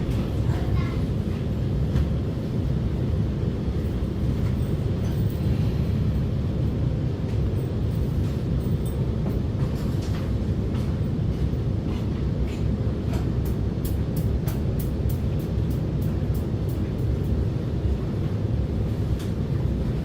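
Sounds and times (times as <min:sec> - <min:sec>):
metro train low rumble: 0:00.0 - 0:20.0.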